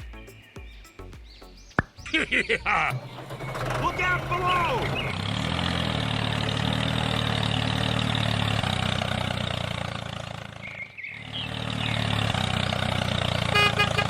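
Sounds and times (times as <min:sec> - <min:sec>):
small tractor engine running: 0:02.7 - 0:14.0.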